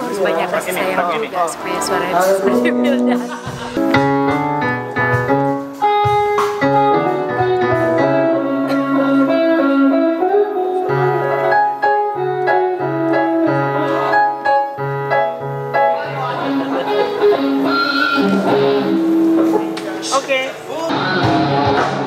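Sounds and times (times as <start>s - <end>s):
keyboard piano chords: 0.0s - 22.0s
electric guitar: 1.6s - 22.0s.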